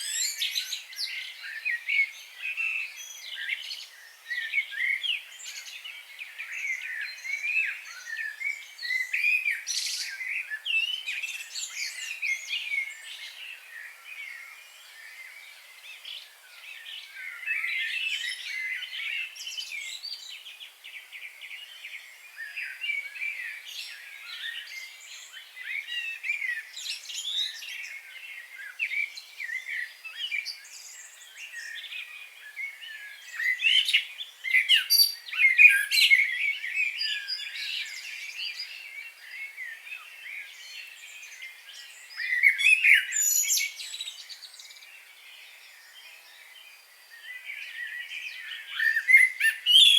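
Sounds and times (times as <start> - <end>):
birds chirping and warbling: 0.0 - 49.9.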